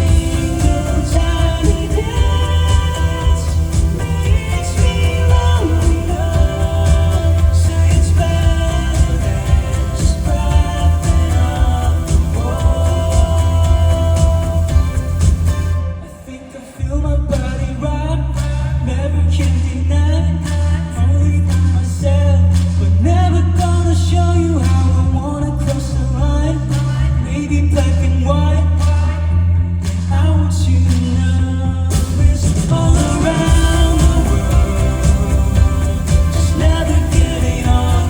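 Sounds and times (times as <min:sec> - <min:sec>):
drums: 0:00.0 - 0:16.0, 0:17.2 - 0:38.0
guitar: 0:00.0 - 0:38.0
man singing: 0:00.0 - 0:38.0
sustained bass notes: 0:00.0 - 0:38.0.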